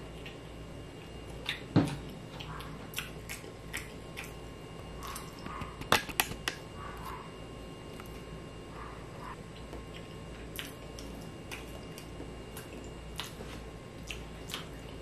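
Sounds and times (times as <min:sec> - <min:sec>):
person chewing food: 0:00.0 - 0:07.2, 0:07.9 - 0:15.0.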